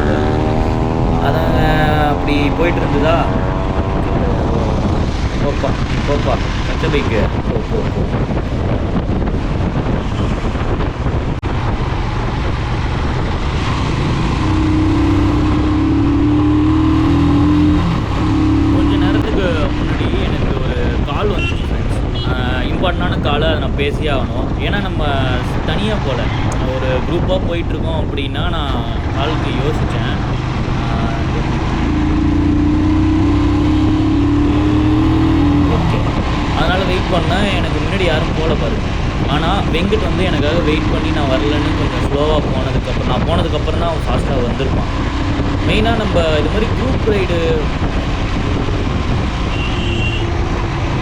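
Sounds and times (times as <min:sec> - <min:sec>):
wind noise on microphone: 0:00.0 - 0:51.0.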